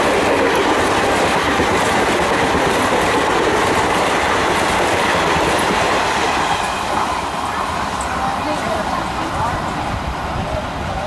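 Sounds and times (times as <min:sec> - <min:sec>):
train wheels rushing on rails: 0:00.0 - 0:11.0.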